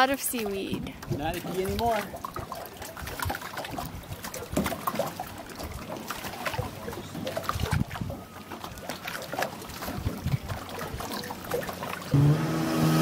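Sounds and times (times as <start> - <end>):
small splashes and knocks: 0.0 - 12.2
water lapping against wooden dock: 0.0 - 13.0.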